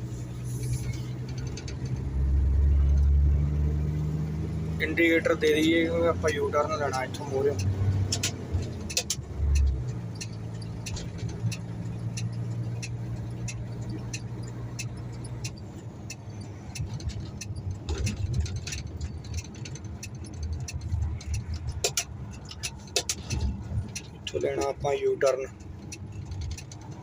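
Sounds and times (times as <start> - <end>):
truck engine drone: 0.0 - 27.0
turn signal ticking: 0.0 - 27.0.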